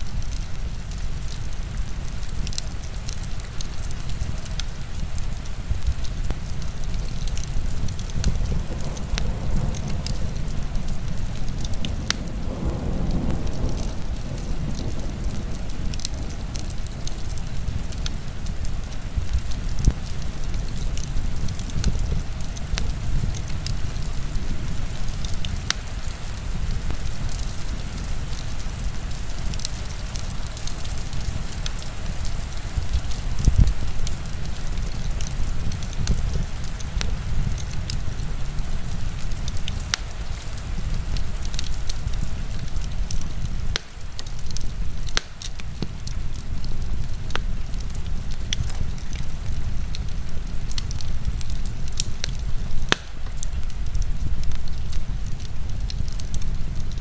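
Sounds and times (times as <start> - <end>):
heavy rain: 0.0 - 57.0
wood fire crackling and popping: 0.0 - 57.0.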